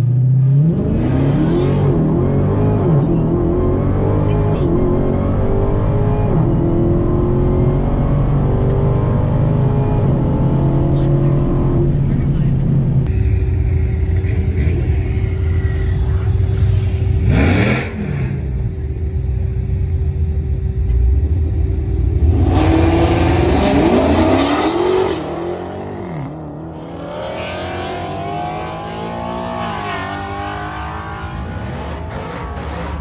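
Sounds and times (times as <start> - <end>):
car engine idling and accelerating: 0.0 - 33.0.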